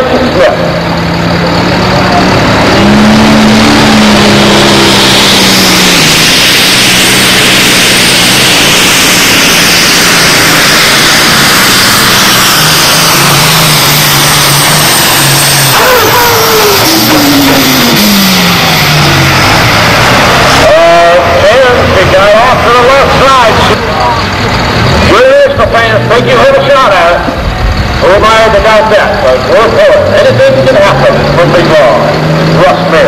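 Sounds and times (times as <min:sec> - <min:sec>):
tractor diesel engine roaring: 0:00.0 - 0:33.0.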